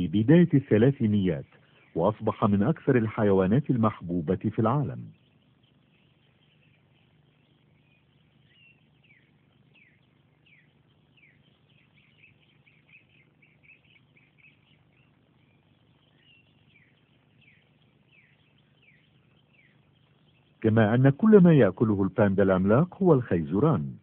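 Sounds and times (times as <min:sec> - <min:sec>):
birds chirping: 0:00.0 - 0:24.0
faint low hum: 0:00.0 - 0:24.0.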